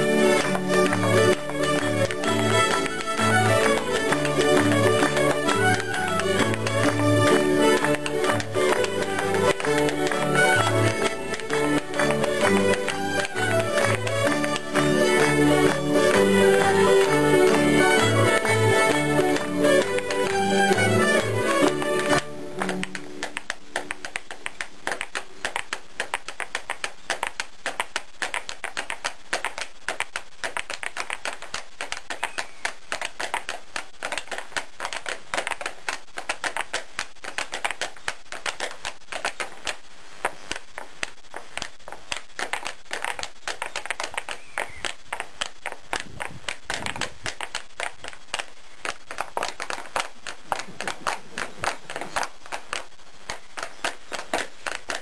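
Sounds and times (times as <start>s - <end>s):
dancers' feet tapping on stage: 0.0s - 55.0s.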